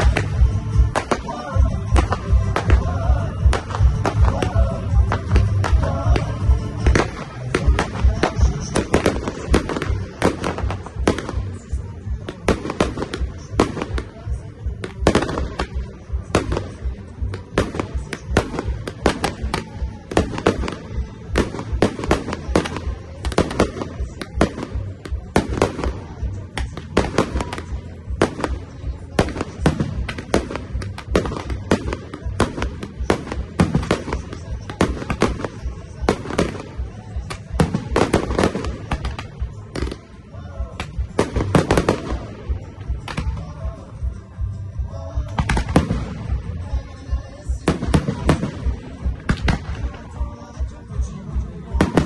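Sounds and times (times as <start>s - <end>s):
music playing: 0.0s - 52.0s.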